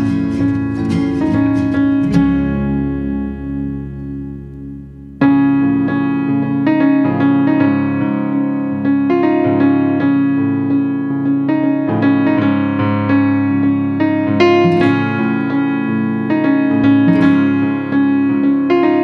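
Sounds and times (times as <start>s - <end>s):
background piano music: 0.0s - 19.0s.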